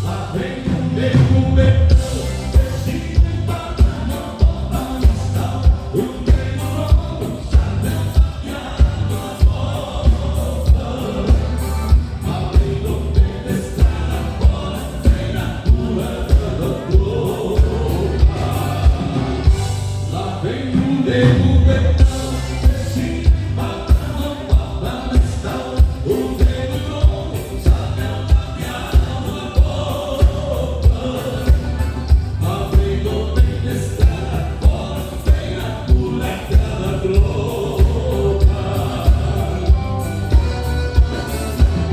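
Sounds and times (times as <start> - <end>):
live dance band music: 0.0 - 41.9.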